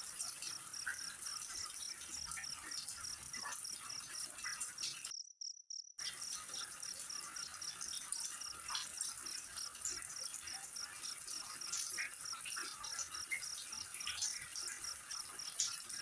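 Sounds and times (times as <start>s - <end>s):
crickets chirping: 0.1s - 15.9s.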